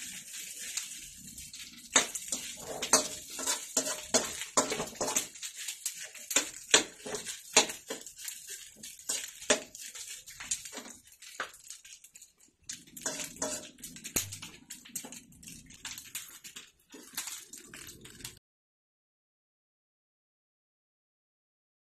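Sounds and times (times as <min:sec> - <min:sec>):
metal spatula scraping a wok: 0:00.0 - 0:18.4.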